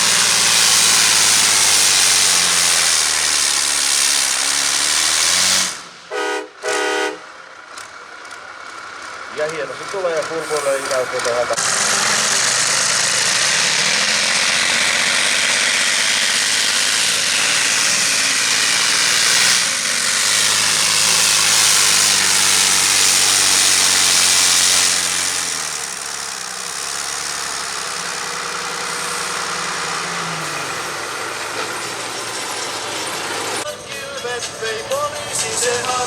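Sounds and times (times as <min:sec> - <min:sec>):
tractor engine running under load: 0:06.6 - 0:36.0.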